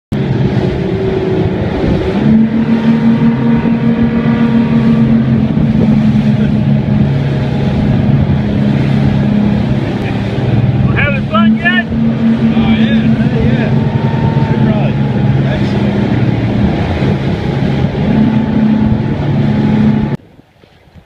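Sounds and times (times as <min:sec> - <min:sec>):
outboard motor drone: 0:00.1 - 0:20.7
water wake rushing: 0:00.1 - 0:21.0
wind: 0:00.1 - 0:21.0.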